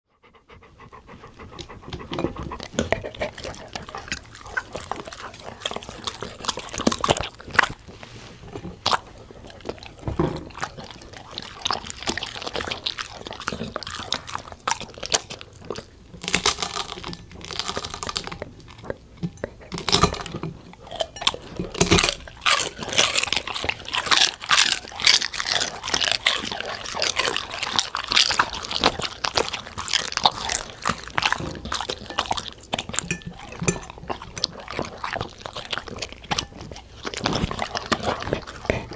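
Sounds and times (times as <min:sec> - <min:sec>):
dogs crunching food: 0:00.2 - 0:38.9.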